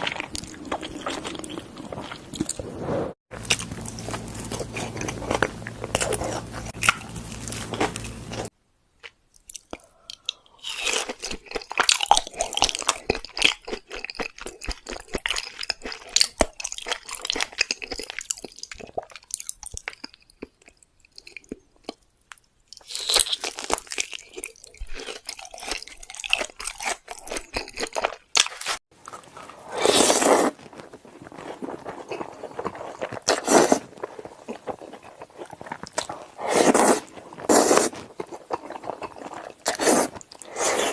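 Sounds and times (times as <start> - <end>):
chewing crunchy food: 0.0 - 2.7, 3.3 - 40.9.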